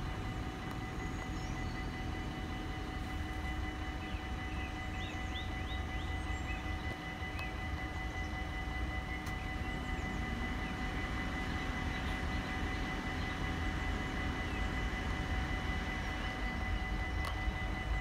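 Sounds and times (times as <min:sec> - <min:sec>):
level-crossing warning bells: 0:00.0 - 0:18.0.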